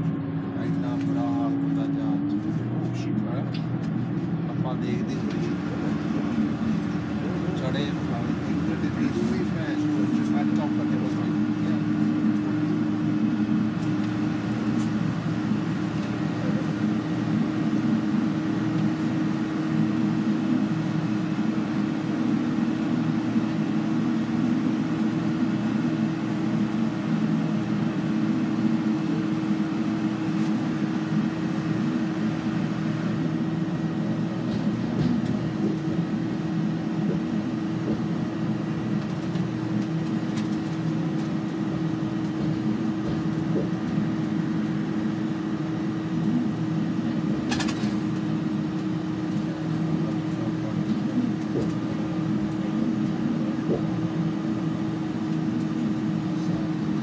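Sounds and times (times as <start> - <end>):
bus engine and road noise droning: 0.0 - 57.0.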